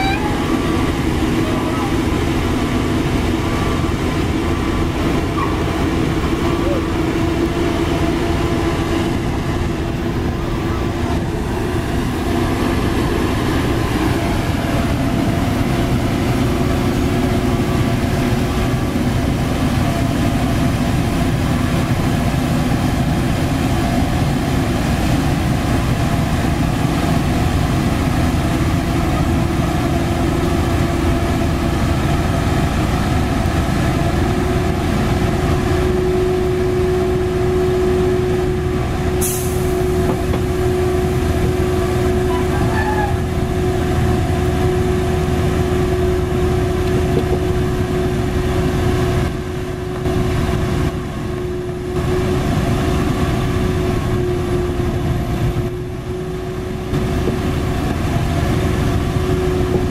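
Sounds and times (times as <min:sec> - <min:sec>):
roller diesel engine droning: 0:00.0 - 0:59.9
steady whine: 0:00.0 - 0:59.9.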